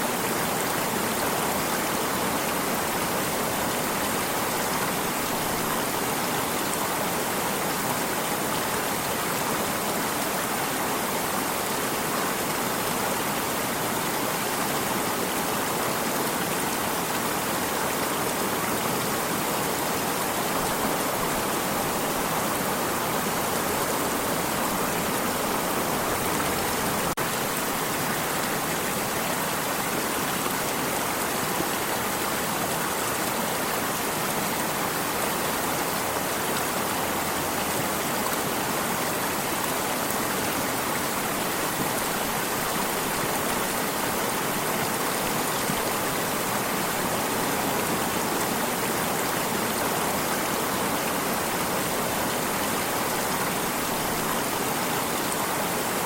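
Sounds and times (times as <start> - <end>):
flowing stream: 0.0 - 56.0.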